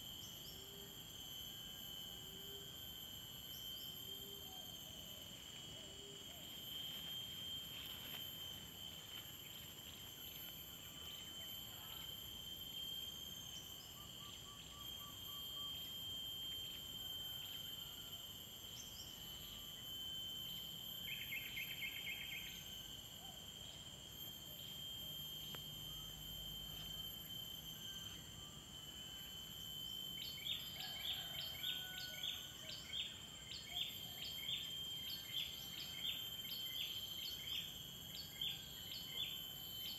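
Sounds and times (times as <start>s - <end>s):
insect trill: 0.0s - 39.9s
insects calling: 0.0s - 39.9s.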